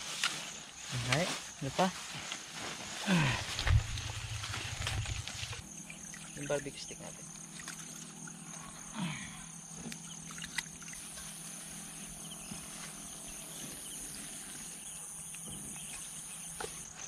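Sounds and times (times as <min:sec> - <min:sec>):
crickets trilling: 0:00.0 - 0:17.0
higher insect band: 0:00.0 - 0:17.0.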